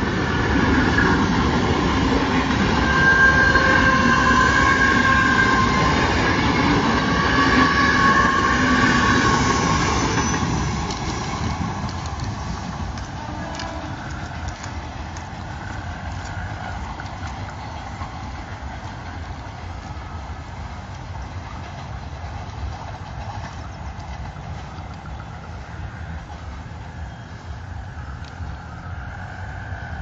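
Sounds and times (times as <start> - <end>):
train rumbling along track: 0.0 - 30.0.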